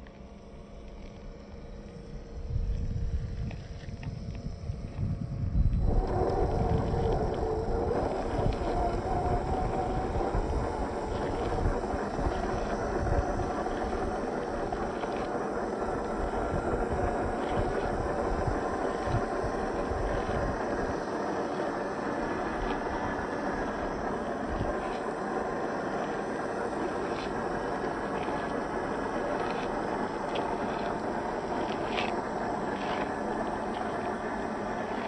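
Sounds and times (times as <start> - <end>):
electric motor whine: 0.0 - 35.0
wheels rumbling over gravel: 0.0 - 35.0.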